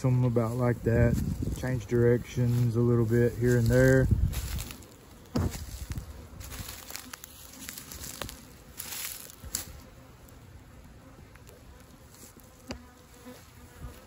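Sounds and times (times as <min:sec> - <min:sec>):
footsteps rustling through grass: 0:00.0 - 0:10.4, 0:11.3 - 0:14.0
honeybees buzzing: 0:00.0 - 0:14.0.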